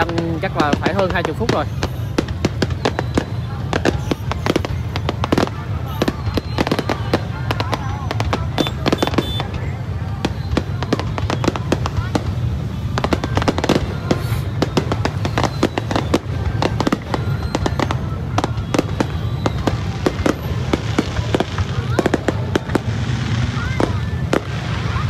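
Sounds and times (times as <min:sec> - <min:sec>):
crowd hubbub: 0:00.0 - 0:25.0
fireworks cracking and popping: 0:00.0 - 0:25.0.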